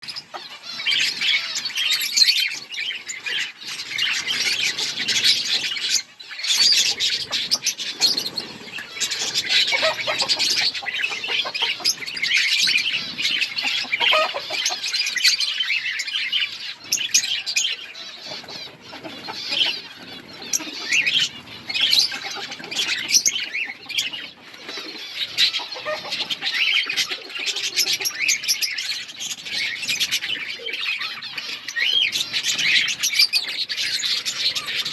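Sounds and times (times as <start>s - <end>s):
budgerigars chirping: 0.0s - 34.9s.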